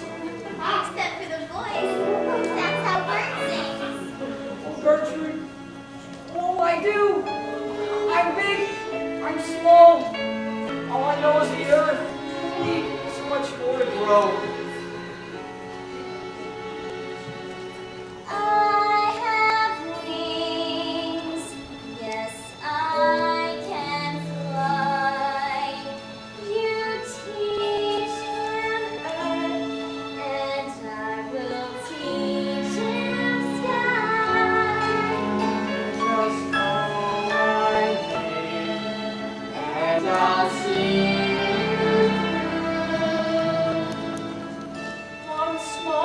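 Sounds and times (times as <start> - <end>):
instrumental accompaniment: 0.0 - 46.0.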